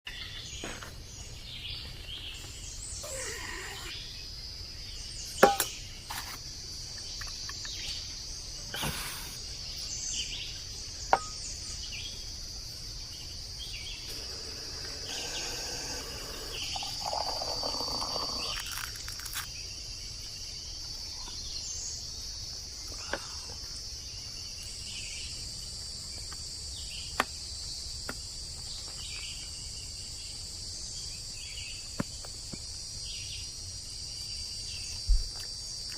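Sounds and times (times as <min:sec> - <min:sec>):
night insects chirring: 0:00.1 - 0:35.9.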